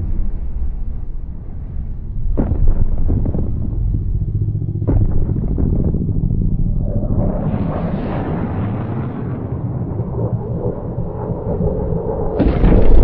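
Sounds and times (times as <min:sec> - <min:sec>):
harsh bright rumble: 0:00.0 - 0:11.2
deep continuous rumble: 0:00.0 - 0:13.0.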